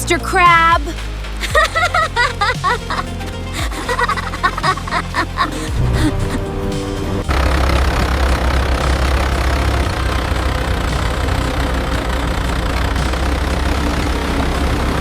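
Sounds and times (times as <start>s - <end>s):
tractor engine droning: 1.7s - 15.0s.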